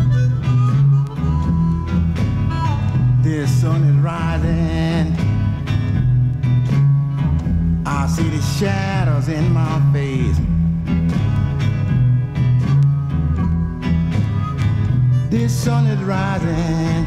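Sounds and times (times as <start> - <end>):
guitar with sliding lead line: 0.0 - 17.0
vinyl country blues record: 0.0 - 17.0.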